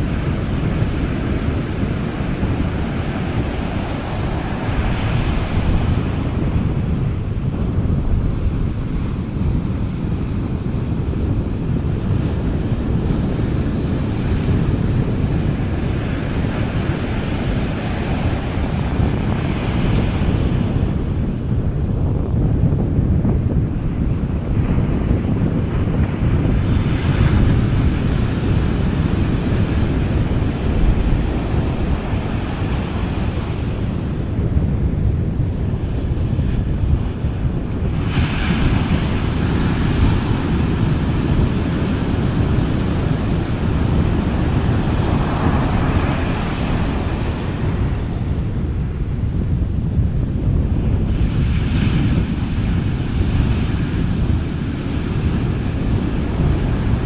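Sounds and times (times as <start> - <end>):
sea waves breaking on beach: 0.0 - 7.4, 10.8 - 21.3, 24.0 - 57.0
wind rumble on microphone: 0.0 - 57.0.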